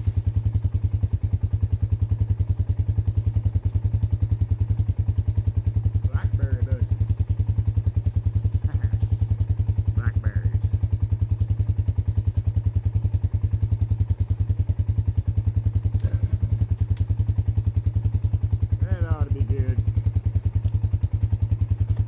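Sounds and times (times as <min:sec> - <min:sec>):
four-wheeler engine idling: 0:00.0 - 0:22.0.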